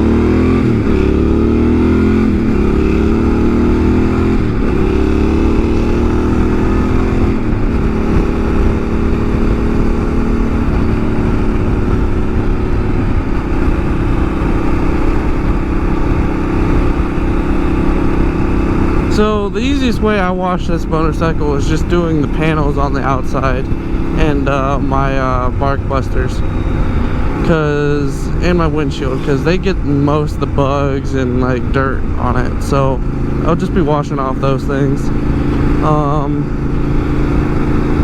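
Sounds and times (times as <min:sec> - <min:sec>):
motorcycle engine shifting gears: 0:00.0 - 0:38.0.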